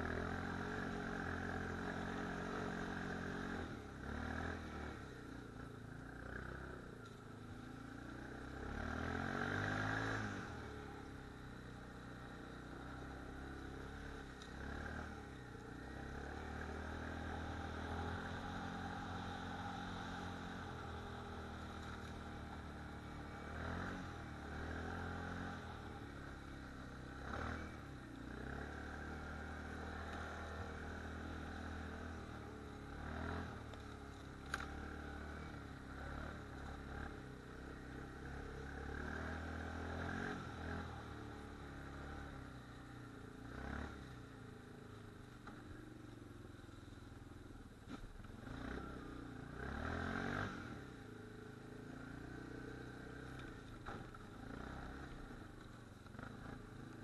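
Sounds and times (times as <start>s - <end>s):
atv engine revving: 0.0s - 46.5s, 47.4s - 57.0s.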